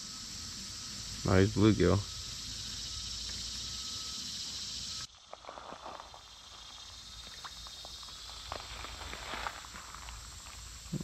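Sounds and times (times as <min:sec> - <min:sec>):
high insect chorus: 0:00.0 - 0:11.0.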